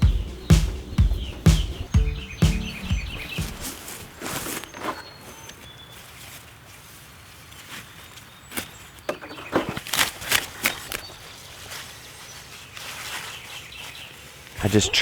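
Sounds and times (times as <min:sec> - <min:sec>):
leafy plants swishing and rustling: 0:02.8 - 0:14.9.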